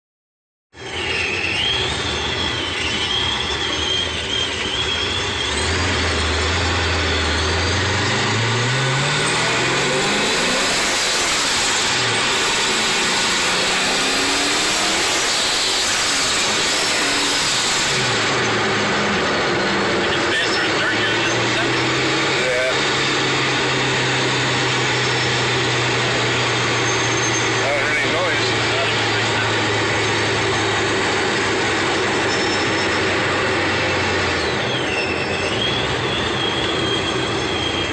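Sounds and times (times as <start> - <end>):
car engine accelerating hard: 0.8 - 37.9
supercharger whine: 0.8 - 37.9.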